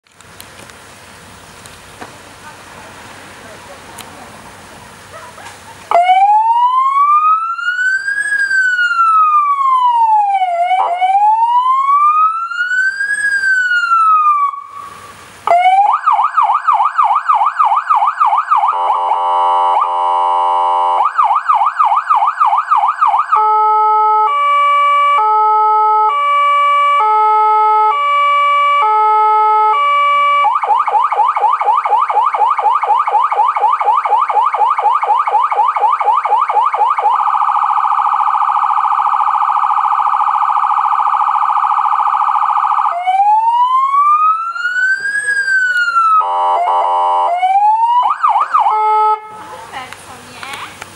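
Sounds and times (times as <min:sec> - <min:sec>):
electronic siren cycling tones: 0:05.9 - 0:49.4.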